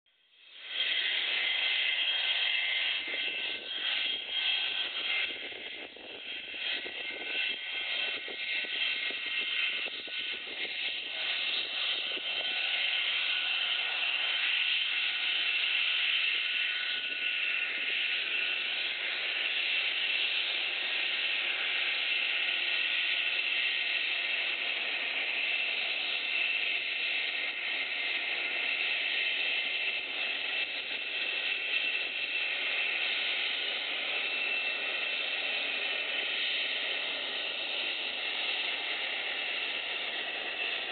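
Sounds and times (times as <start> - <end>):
jet engines whining: 0.6 - 40.9.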